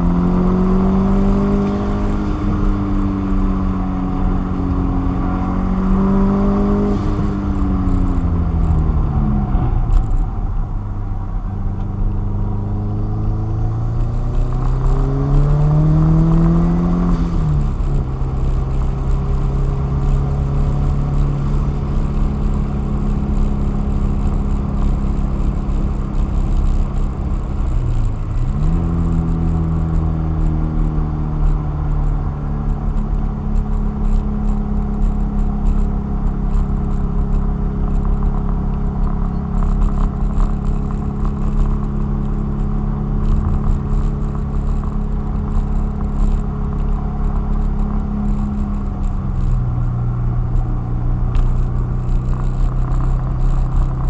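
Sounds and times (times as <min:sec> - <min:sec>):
car engine under load: 0:00.0 - 0:54.0
road noise: 0:00.0 - 0:54.0.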